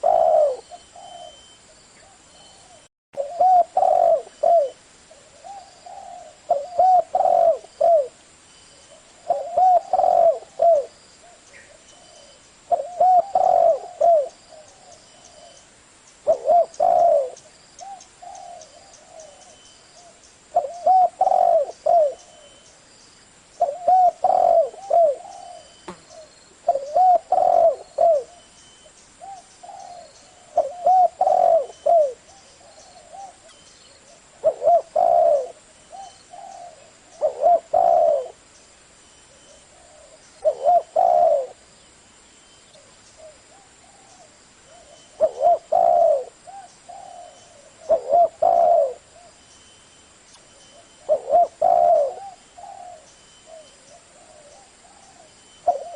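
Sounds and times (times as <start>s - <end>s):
dove cooing: 0.0s - 8.2s, 8.9s - 15.6s, 16.2s - 22.6s, 23.6s - 28.5s, 29.2s - 38.4s, 39.3s - 41.6s, 42.7s - 49.4s, 50.7s - 55.9s.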